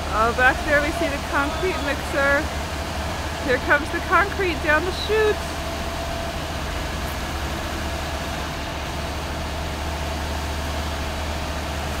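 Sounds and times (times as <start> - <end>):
heavy diesel truck engines droning: 0.0 - 12.0.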